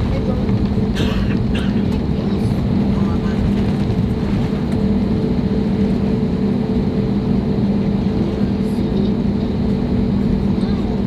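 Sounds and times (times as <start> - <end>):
jet engine rush in cabin: 0.0 - 11.0
low engine hums: 0.0 - 11.0.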